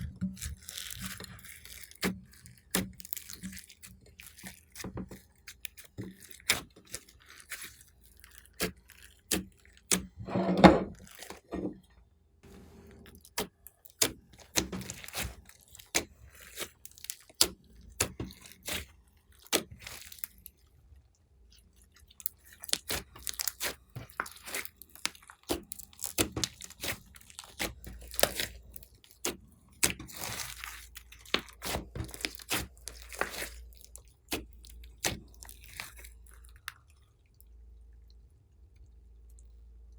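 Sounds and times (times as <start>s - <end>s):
slime squelch: 0.0s - 10.2s, 12.5s - 39.9s.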